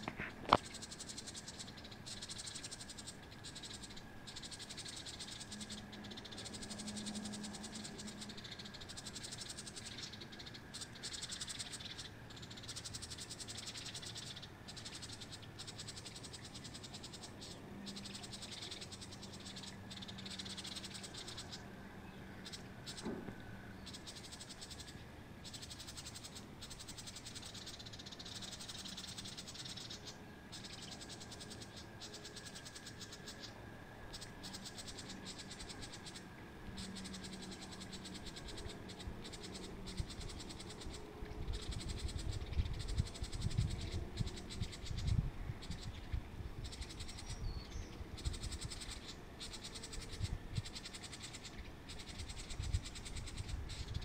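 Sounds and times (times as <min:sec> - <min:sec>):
pulsing animal chirring: 0:00.0 - 0:54.0.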